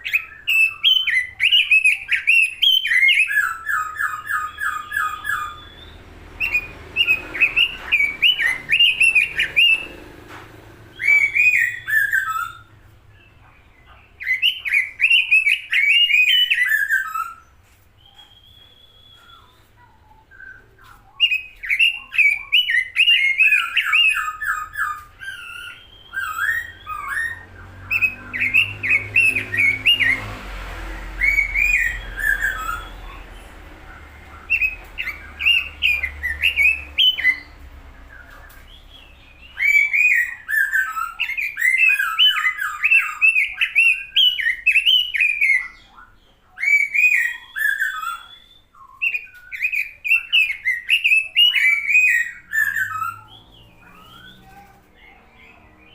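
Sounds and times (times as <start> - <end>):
bird singing rapid runs: 0.0 - 55.9.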